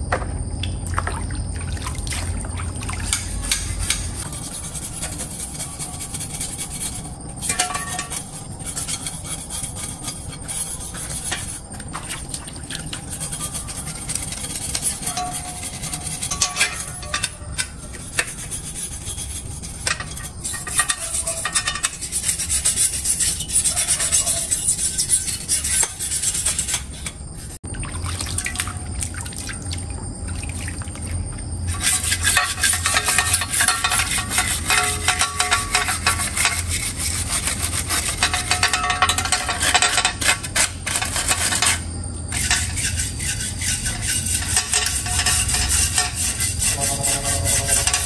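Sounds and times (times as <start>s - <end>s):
brush scrubbing wet bicycle frame: 3.0s - 27.6s, 31.7s - 48.0s.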